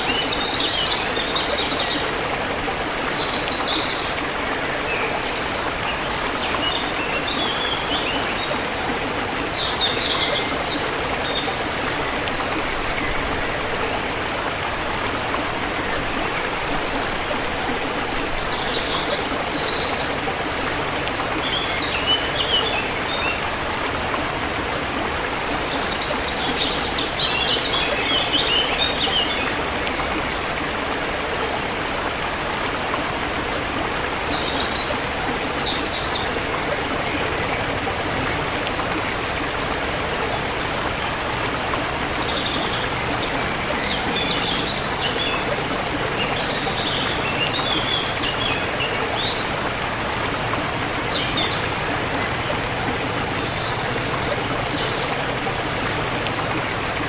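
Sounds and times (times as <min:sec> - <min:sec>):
forest river flowing: 0:00.0 - 0:57.0.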